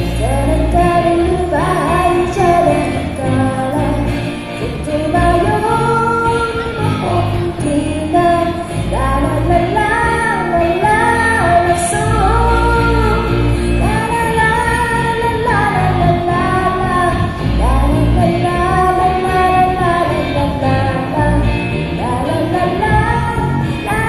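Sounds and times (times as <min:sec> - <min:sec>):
live pop band playing: 0:00.0 - 0:24.0
steady bass line: 0:00.0 - 0:24.0.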